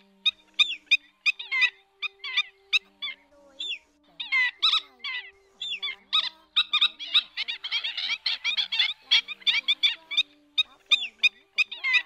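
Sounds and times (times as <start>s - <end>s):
birds making sharp calls: 0.0s - 12.0s
faint held music notes: 0.0s - 12.0s.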